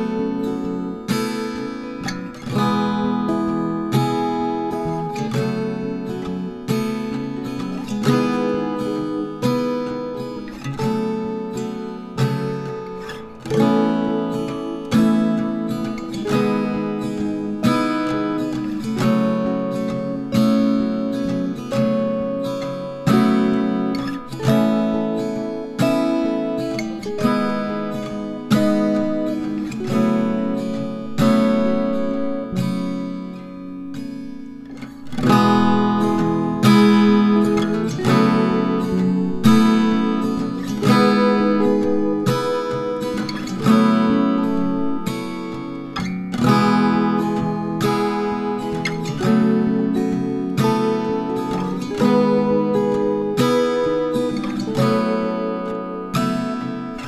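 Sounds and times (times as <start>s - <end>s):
strummed acoustic guitar chords: 0.0s - 57.0s.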